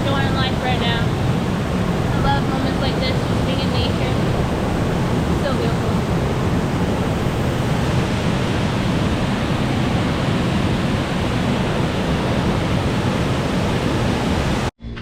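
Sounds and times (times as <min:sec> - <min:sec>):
rushing water: 0:00.0 - 0:14.7.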